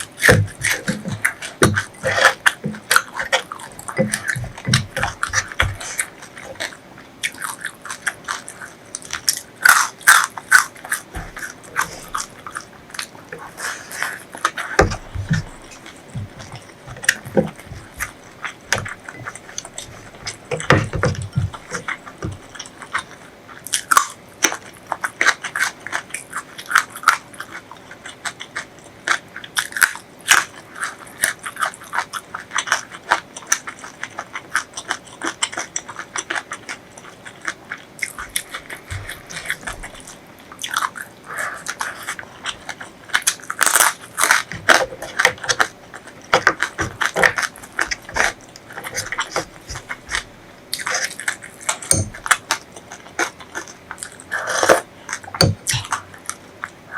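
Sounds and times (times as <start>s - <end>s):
crackly clicks: 0.0s - 56.9s
mouth chewing crunchy food: 0.0s - 56.9s.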